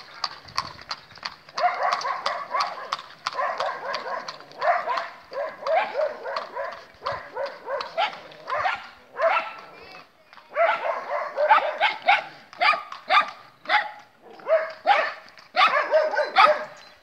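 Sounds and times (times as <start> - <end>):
horse hooves on asphalt: 0.0 - 17.0
dog barking rapidly: 1.6 - 9.6, 10.5 - 16.8.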